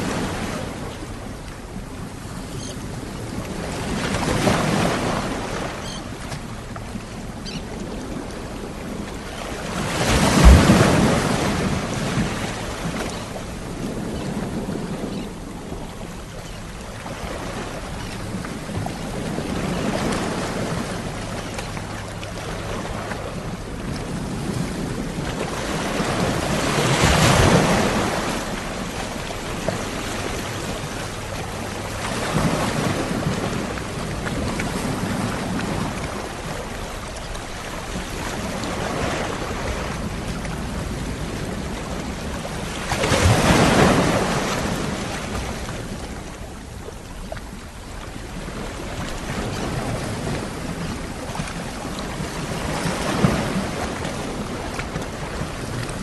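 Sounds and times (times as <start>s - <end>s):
steady wash of surf: 0.0s - 56.0s
waves breaking: 0.0s - 56.0s.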